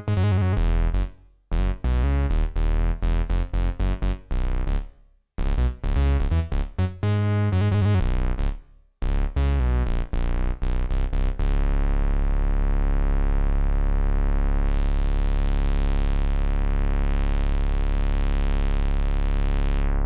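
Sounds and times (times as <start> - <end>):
analogue synthesizer low notes: 0.0 - 4.8, 5.4 - 20.0.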